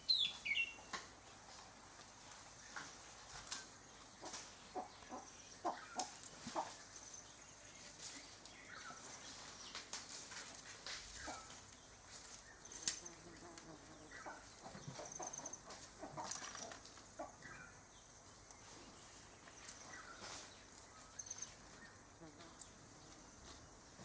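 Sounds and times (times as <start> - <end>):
birds clucking and chirping: 0.0 - 24.0.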